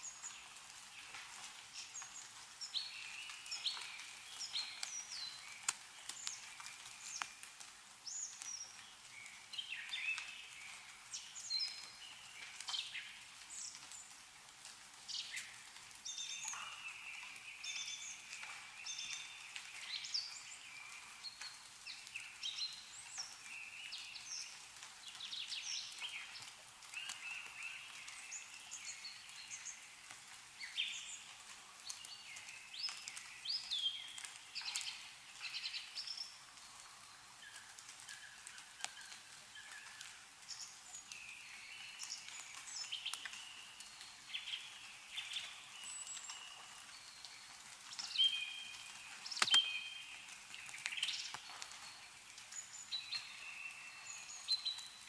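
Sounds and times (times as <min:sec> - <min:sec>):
meltwater dripping ticks: 0:00.0 - 0:55.0
songbirds chirping: 0:00.0 - 0:55.0.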